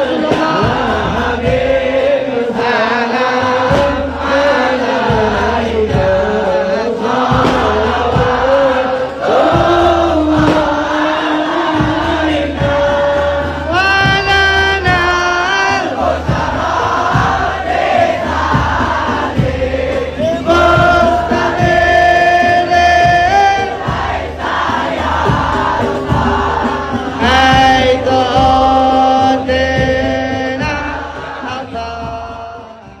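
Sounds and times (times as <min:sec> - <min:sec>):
group singing with male lead: 0:00.0 - 0:33.0
low drum beats: 0:00.0 - 0:33.0.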